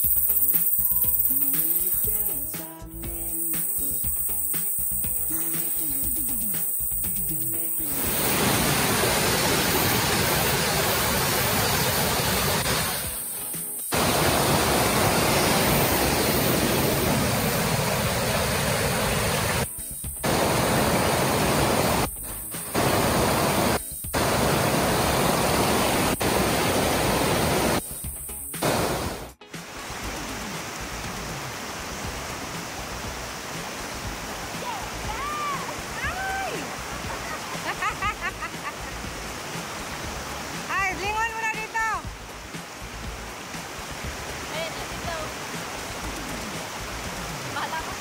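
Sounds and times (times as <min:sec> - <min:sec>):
rushing stream water: 0:00.0 - 0:48.0.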